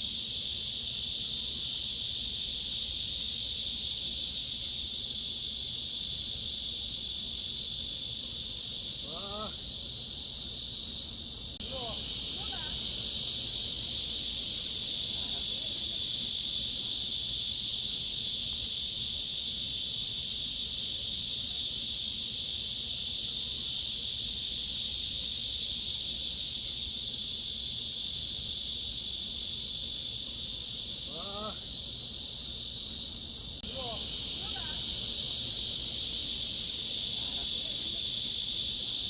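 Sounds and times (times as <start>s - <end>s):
cicadas droning: 0.0s - 39.0s.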